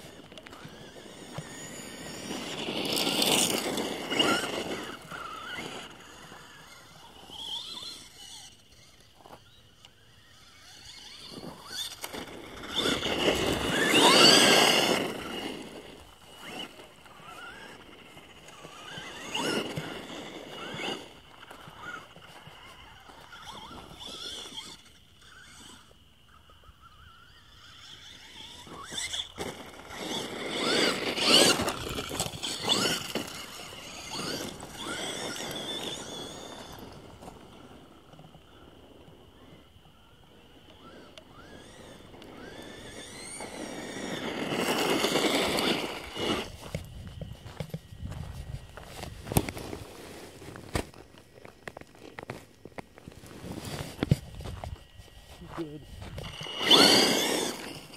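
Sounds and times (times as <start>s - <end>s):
tyres crunching on gravel: 0.0s - 9.6s, 10.2s - 26.0s, 27.6s - 39.1s, 40.6s - 57.9s
toy truck motor whining: 0.0s - 38.7s, 39.4s - 50.6s, 56.0s - 57.9s.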